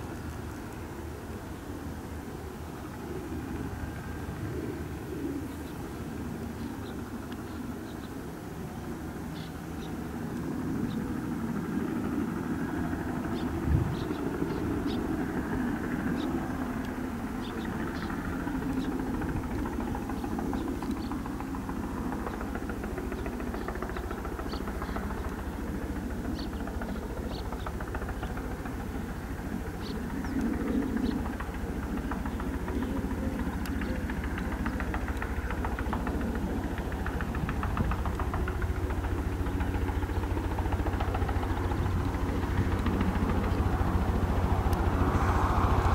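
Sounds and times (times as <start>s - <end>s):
helicopter rotor beating: 1.9s - 45.9s
turbine engine running: 1.9s - 45.9s.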